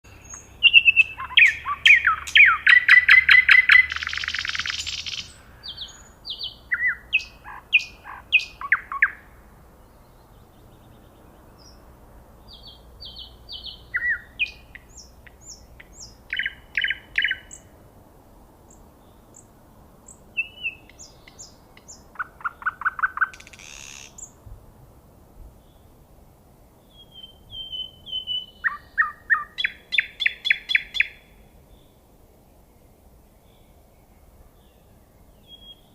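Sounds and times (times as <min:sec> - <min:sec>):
nightingale singing: 0:00.0 - 0:11.8, 0:12.4 - 0:17.7, 0:18.7 - 0:24.4, 0:26.7 - 0:35.9.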